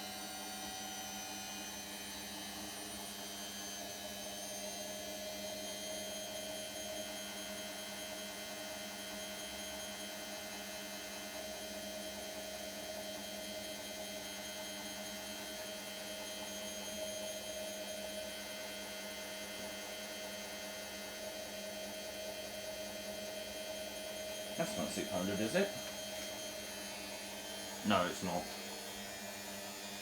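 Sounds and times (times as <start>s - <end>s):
washing machine motor whine: 0.0s - 30.0s.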